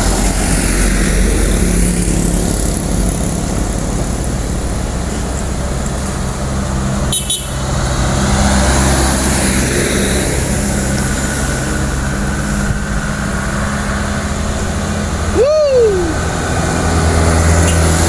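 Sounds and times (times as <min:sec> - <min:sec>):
truck engine under load: 0:00.0 - 0:18.0.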